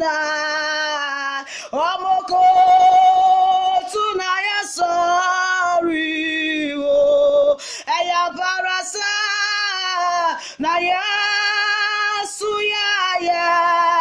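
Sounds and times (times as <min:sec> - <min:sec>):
woman singing slow song: 0:00.0 - 0:14.0.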